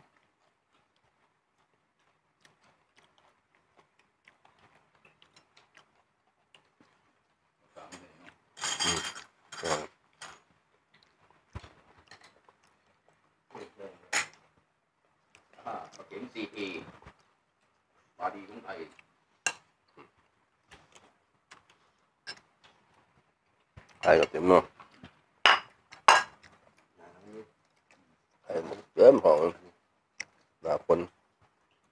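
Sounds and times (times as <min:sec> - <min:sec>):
quiet chewing: 0:00.0 - 0:08.6, 0:09.2 - 0:31.9.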